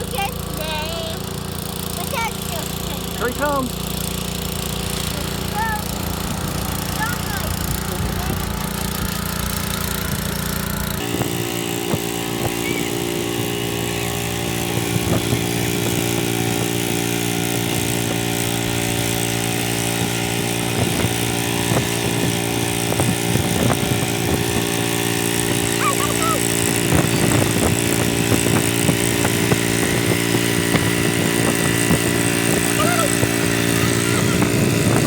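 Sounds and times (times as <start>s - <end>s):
small engine running hard: 0.0s - 35.0s.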